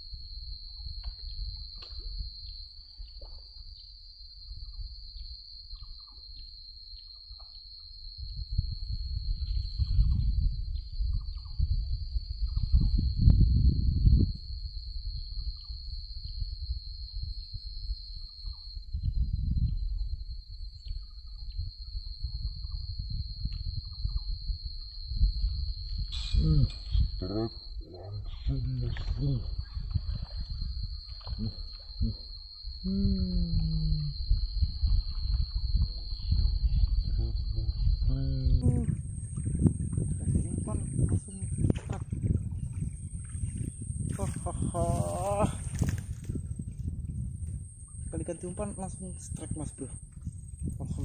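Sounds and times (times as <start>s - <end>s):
high-pitched insect drone: 0.0s - 51.0s
wind rumble on microphone: 0.0s - 51.0s.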